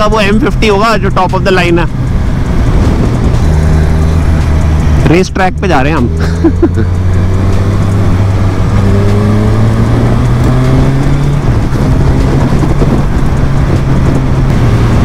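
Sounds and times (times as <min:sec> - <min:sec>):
wind rush: 0:00.0 - 0:06.3, 0:06.9 - 0:15.0
motorcycle engine running: 0:00.0 - 0:15.0.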